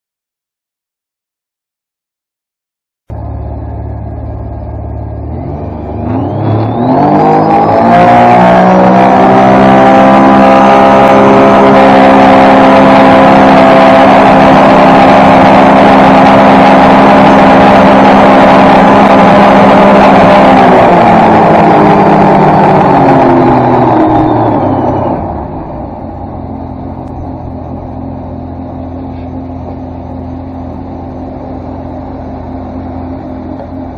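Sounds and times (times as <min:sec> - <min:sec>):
boat engine revving: 0:03.1 - 0:33.9
turbo whine: 0:03.1 - 0:33.9.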